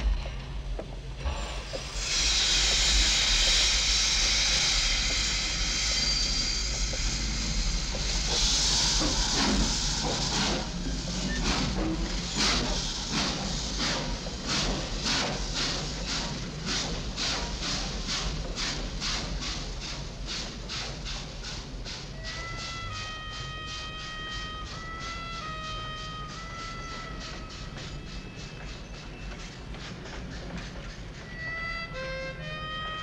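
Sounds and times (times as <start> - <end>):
steam locomotive chuffing: 0.0 - 33.0
steam hissing from locomotive: 1.2 - 33.0.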